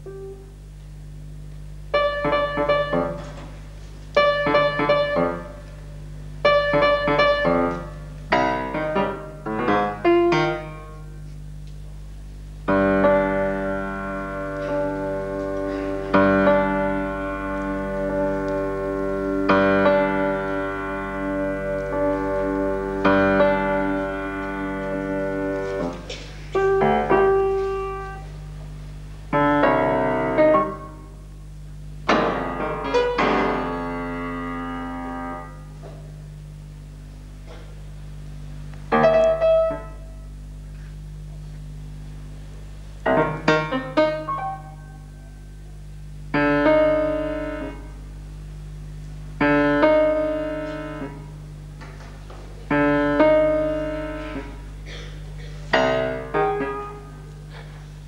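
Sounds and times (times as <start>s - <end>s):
grand piano chords: 0.0s - 58.0s
steady low hum: 0.0s - 58.0s.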